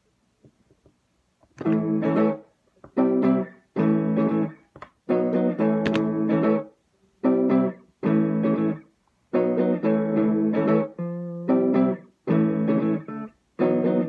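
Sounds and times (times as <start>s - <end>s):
guitar playing chords: 1.6s - 14.0s.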